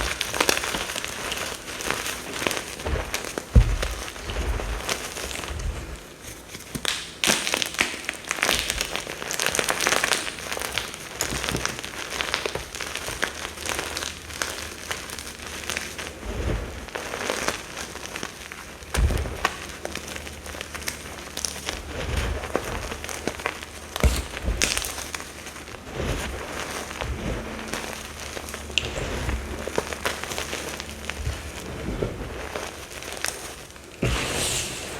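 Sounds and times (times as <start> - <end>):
powder bombs crushed by hand: 0.0 - 34.9.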